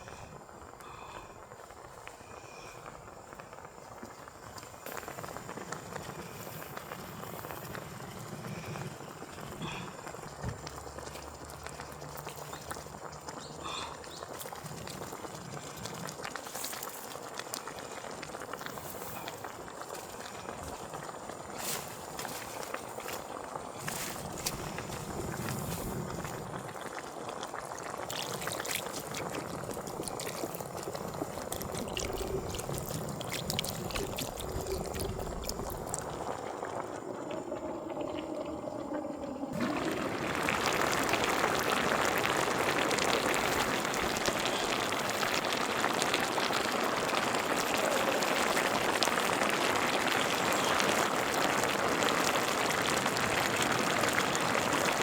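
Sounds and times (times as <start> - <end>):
soup bubbling in pot: 0.0 - 55.0.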